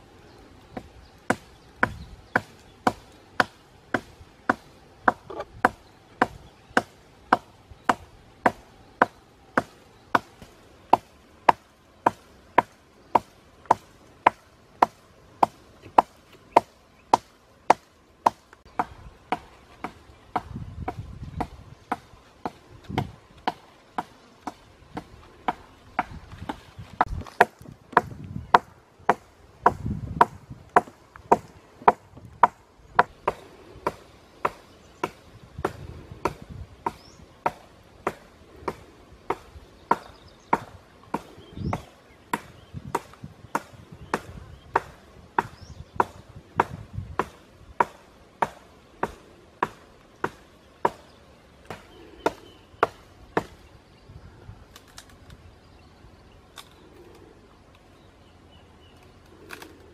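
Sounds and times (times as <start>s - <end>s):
blade chopping wood: 0.7s - 53.6s.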